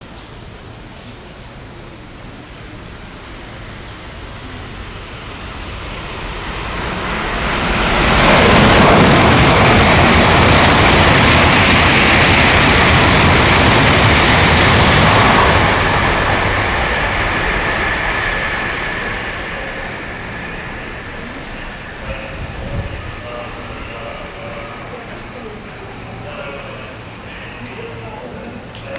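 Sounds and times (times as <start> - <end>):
train passing at high speed: 0.0 - 28.9
rush of air and wheel noise: 3.0 - 28.0.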